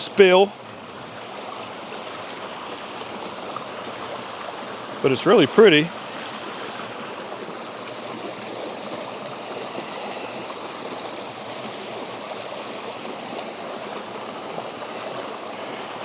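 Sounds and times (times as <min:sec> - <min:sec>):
creek water rushing over cascade: 0:00.0 - 0:16.0.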